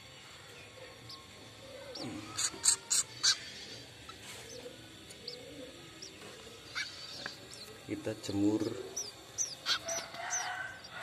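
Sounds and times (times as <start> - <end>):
harsh nestling calls: 0.0 - 11.0
nestlings chirping: 0.0 - 11.0.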